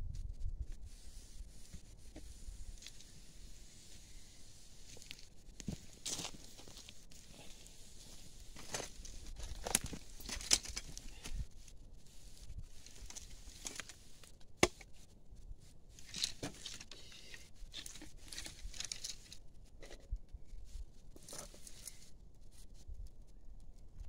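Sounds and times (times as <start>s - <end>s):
rustling and crinkling handling noise: 0.1s - 24.0s.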